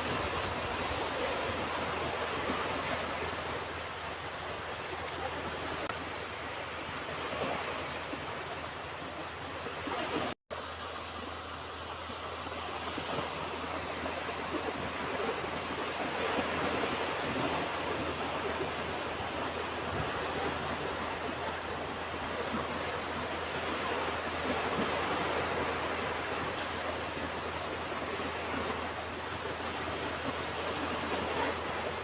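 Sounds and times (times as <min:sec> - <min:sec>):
ocean waves washing onto beach: 0:00.0 - 0:32.0.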